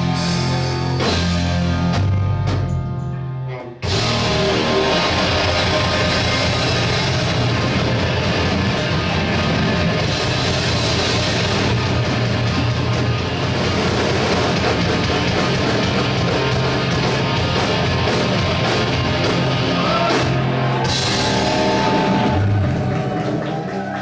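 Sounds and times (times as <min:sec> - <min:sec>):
drum kit: 0:00.0 - 0:03.2, 0:03.8 - 0:24.0
bass: 0:00.0 - 0:24.0
electric guitars: 0:00.0 - 0:24.0.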